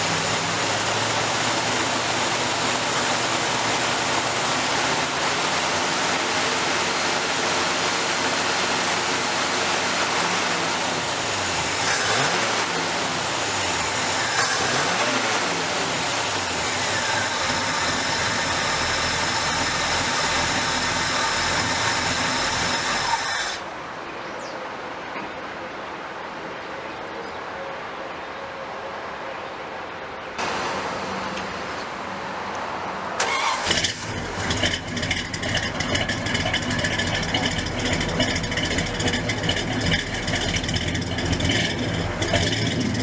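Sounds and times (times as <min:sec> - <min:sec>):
car engine: 0:00.0 - 0:24.0, 0:30.4 - 0:43.0
road noise: 0:00.0 - 0:43.0.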